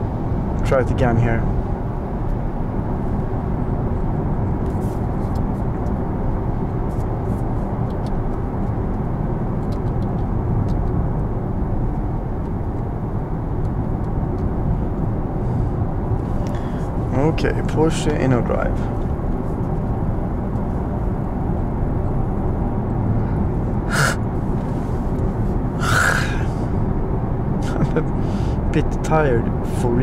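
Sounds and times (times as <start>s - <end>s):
road and tyre noise: 0.0s - 30.0s.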